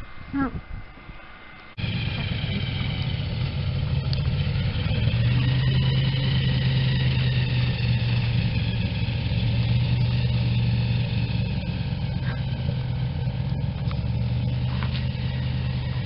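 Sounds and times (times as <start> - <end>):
airboat engine humming: 0.0 - 16.0.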